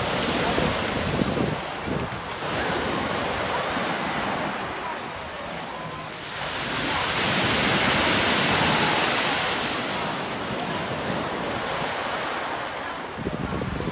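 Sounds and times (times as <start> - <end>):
waves washing up pebble beach: 0.0 - 13.9.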